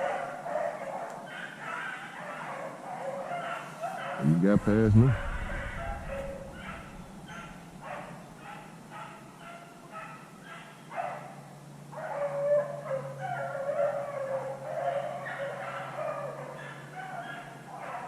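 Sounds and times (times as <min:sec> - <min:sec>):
hounds baying and barking: 0:00.0 - 0:18.0.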